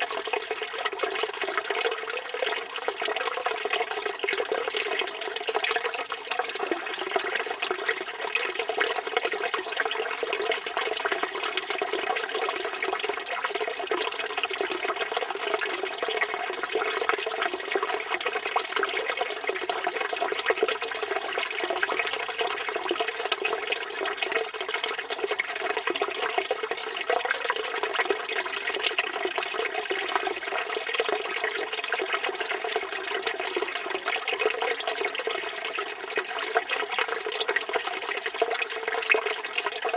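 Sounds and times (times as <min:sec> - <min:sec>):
fountain water splashing into basin: 0:00.0 - 0:39.9.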